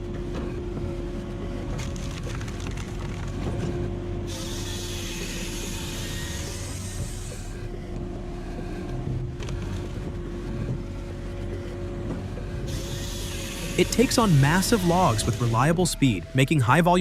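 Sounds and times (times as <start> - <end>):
engine and hydraulic hum: 0.0 - 17.0.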